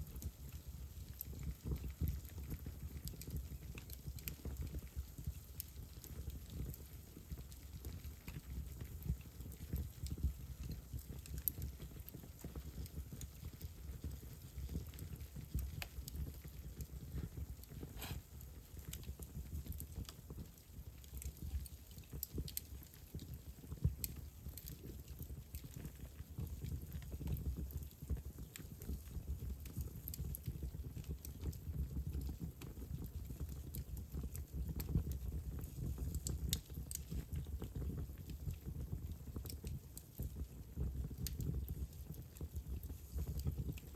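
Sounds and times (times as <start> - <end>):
fire crackling and popping: 0.0 - 43.9
low rumble of flames: 0.0 - 43.9.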